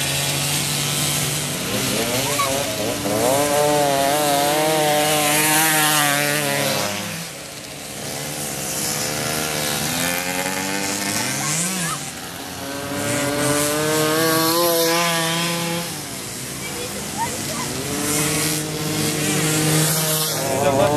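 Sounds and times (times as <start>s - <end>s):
moped engines racing: 0.0s - 20.9s
moped passing by: 0.0s - 20.9s.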